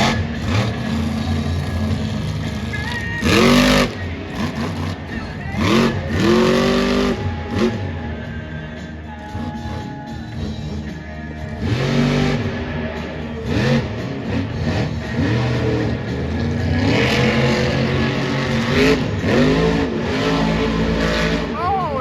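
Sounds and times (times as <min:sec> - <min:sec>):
truck engine revving: 0:00.0 - 0:08.2, 0:09.3 - 0:22.0.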